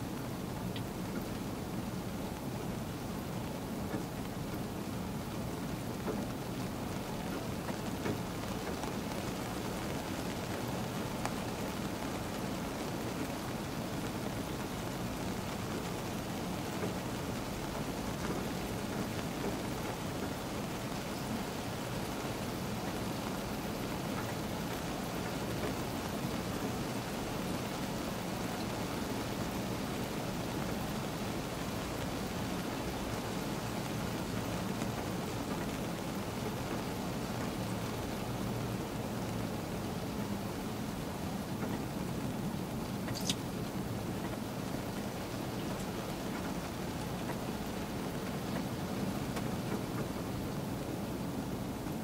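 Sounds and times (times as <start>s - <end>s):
rain pattering on a car: 0.0s - 52.0s
faint raindrop ticks: 0.1s - 52.0s.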